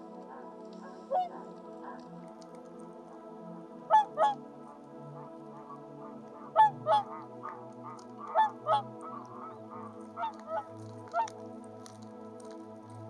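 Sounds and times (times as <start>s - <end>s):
swans honking: 0.0s - 2.6s, 3.8s - 12.5s.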